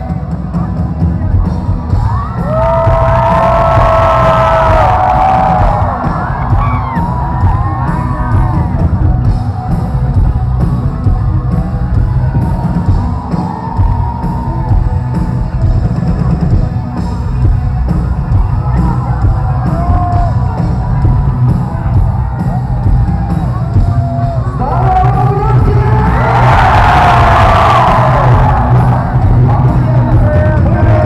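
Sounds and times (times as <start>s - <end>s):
live concert music: 0.0s - 31.0s
crowd yelling: 1.5s - 31.0s.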